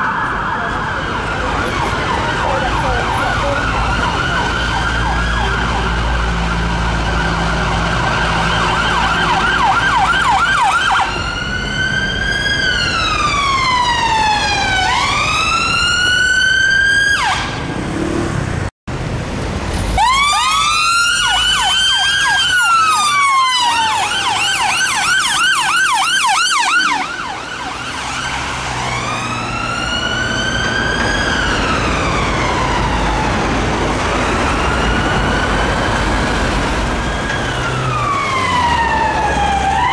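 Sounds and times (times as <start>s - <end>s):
ambulance sirens yelp and wail: 0.0s - 17.7s, 19.8s - 39.9s
traffic rumble: 0.0s - 39.9s.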